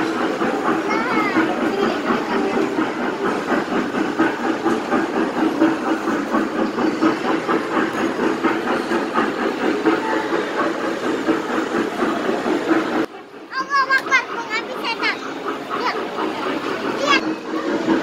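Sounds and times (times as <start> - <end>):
kiddie train ride clattering: 0.0 - 18.0.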